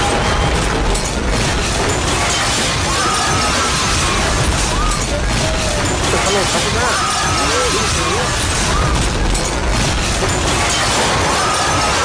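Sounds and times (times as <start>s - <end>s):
building collapsing debris crashing: 0.0s - 12.0s.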